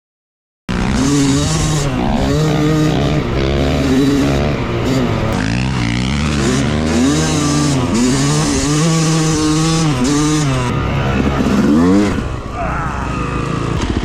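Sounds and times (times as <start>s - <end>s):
motocross engine revving: 0.7s - 14.0s.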